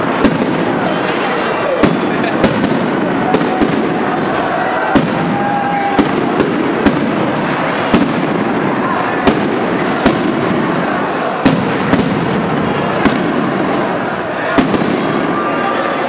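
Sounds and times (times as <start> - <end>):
fireworks bangs: 0.0 - 16.0
fireworks crackle: 0.0 - 16.0.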